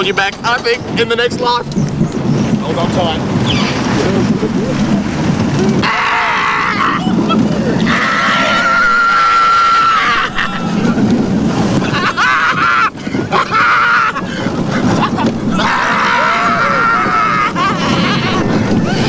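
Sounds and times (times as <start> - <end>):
coaster train rumbling on track: 0.0 - 19.0
riders screaming: 0.0 - 19.0
wind on microphone: 0.0 - 19.0.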